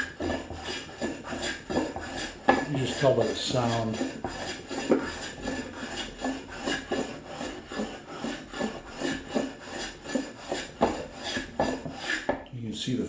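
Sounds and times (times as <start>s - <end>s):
hand plane cutting shavings: 0.0s - 12.4s.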